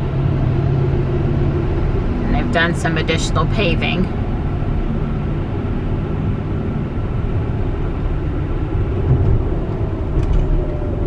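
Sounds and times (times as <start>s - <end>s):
tyre and wind road noise: 0.0s - 11.0s.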